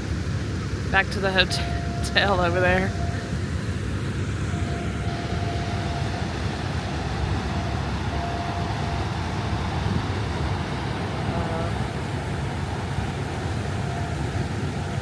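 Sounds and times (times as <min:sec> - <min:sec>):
rushing water rapids roaring: 0:00.0 - 0:15.0.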